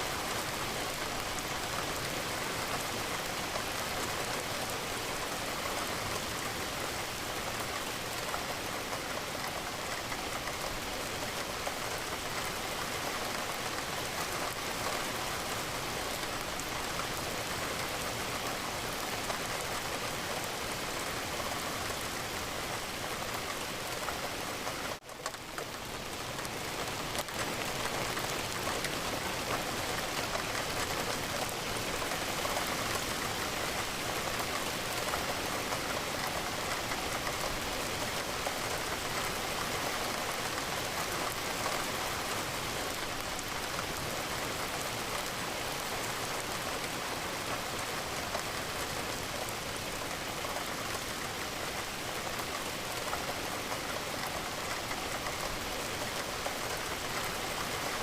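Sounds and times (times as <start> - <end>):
rain against a window: 0.0 - 58.0.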